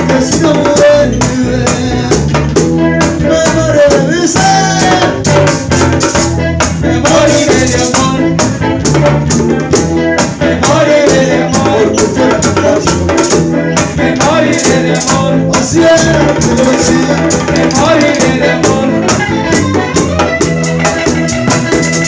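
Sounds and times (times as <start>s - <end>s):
live band playing bachata: 0.0s - 22.0s.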